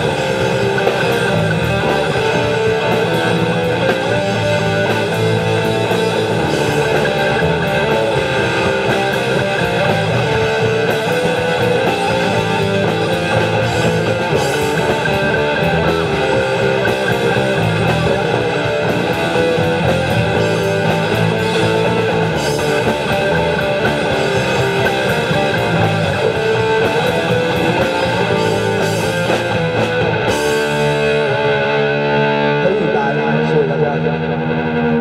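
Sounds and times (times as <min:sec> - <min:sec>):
drum kit: 0:00.0 - 0:33.0
bass guitar: 0:00.0 - 0:35.0
electric guitar: 0:00.0 - 0:35.0.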